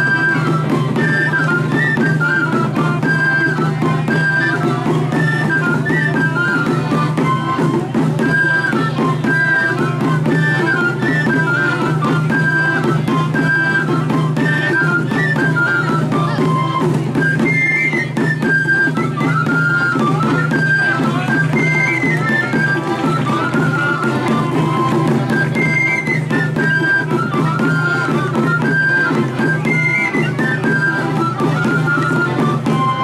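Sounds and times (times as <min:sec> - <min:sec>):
drumbeat: 0:00.0 - 0:33.0
high wind instrument melody: 0:00.0 - 0:33.0.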